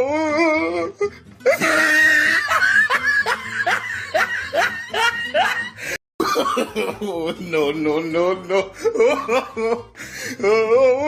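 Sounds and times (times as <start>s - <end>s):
person laughing: 1.4s - 11.0s.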